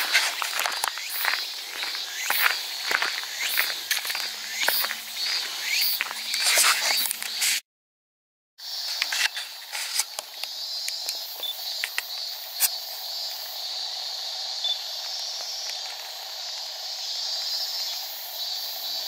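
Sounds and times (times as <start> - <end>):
insects buzzing: 0.0 - 7.5, 8.6 - 19.0.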